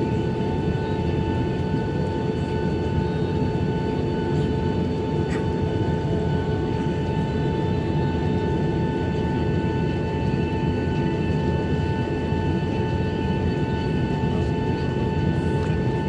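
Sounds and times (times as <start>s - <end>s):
aircraft cabin low rumble: 0.0s - 16.0s
steady whine tones: 0.0s - 16.0s.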